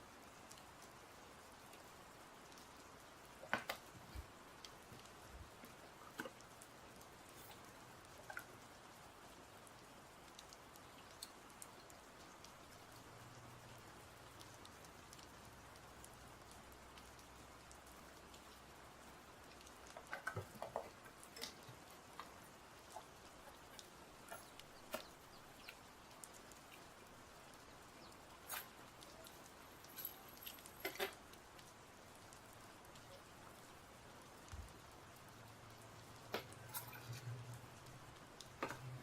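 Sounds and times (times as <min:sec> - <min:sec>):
background hiss: 0:00.0 - 0:39.0
faint clicks taps and crackles: 0:00.0 - 0:39.0.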